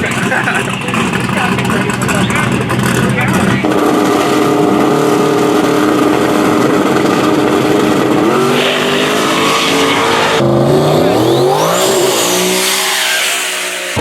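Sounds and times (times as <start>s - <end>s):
drag race car engine revving: 0.0s - 14.0s
high rising whine: 0.0s - 14.0s.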